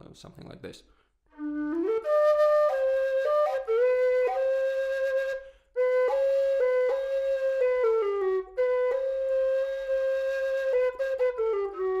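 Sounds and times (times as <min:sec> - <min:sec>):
low whistle playing: 0:01.4 - 0:12.0.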